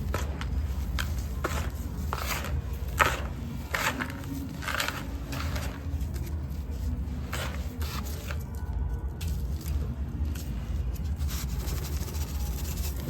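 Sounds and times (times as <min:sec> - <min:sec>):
dry cement crumbling: 0:00.0 - 0:13.0.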